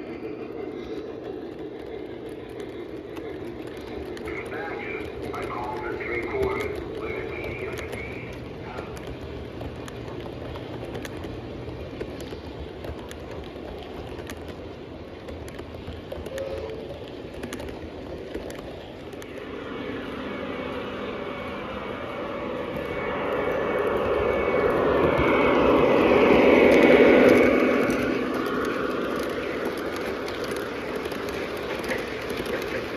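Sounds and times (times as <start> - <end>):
model train rumbling on track: 0.0 - 32.9.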